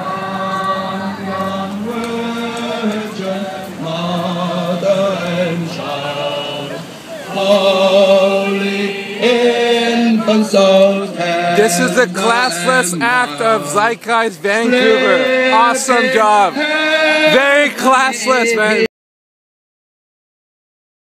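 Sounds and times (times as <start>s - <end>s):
group singing a carol: 0.0s - 18.9s.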